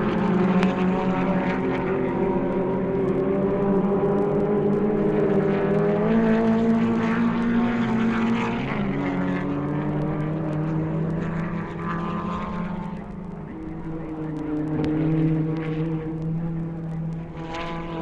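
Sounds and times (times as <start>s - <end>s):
racing car engines passing: 0.0s - 18.0s.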